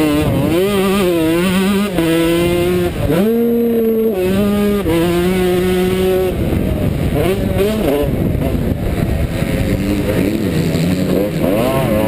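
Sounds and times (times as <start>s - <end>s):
two-stroke motorcycle engine revving: 0.0s - 12.0s.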